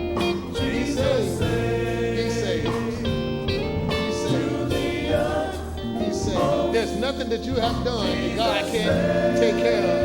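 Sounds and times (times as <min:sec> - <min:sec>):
gospel singing: 0:00.0 - 0:10.0
held instrumental chords: 0:00.0 - 0:10.0.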